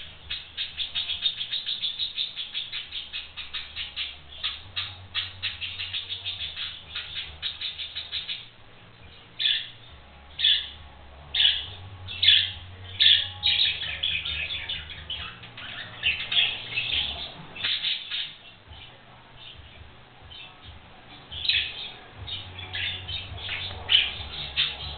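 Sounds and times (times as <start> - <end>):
budgerigars chirping: 0.0 - 8.5, 9.1 - 24.9.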